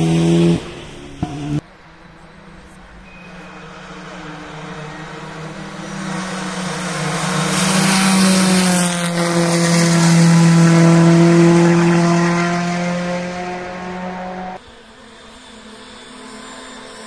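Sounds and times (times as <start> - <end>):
rally car engine passing: 0.0 - 17.0.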